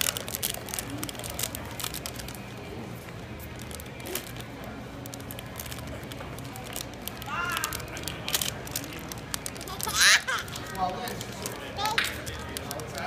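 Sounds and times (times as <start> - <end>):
packaging crinkling and tearing: 0.0 - 2.5, 3.4 - 13.0.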